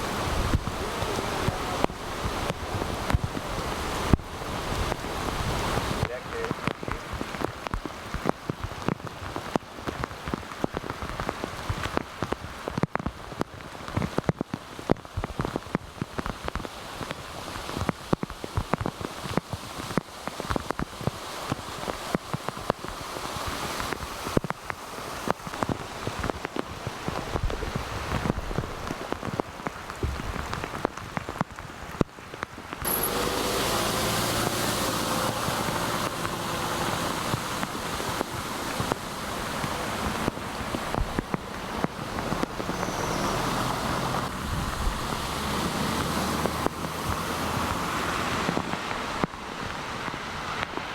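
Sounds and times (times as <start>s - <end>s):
raindrops pattering close by: 0.0s - 50.9s
steady rushing rain noise: 0.0s - 50.9s.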